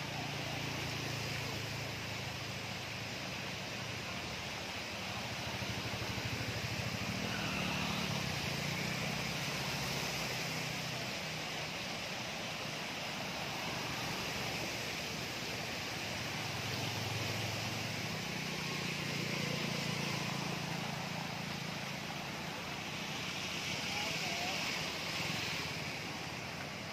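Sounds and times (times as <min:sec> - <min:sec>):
small motorcycle engines running: 0:00.0 - 0:26.8
water splashing off wheels: 0:00.0 - 0:26.9.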